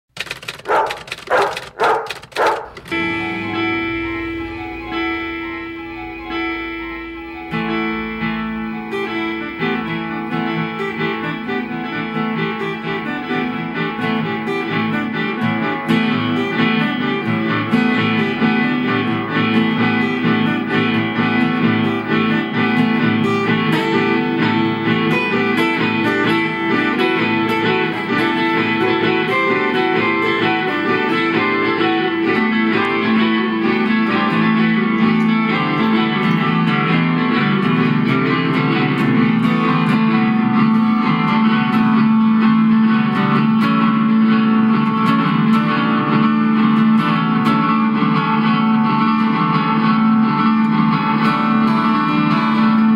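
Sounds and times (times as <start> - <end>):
amplified guitar music: 0.1 - 52.9.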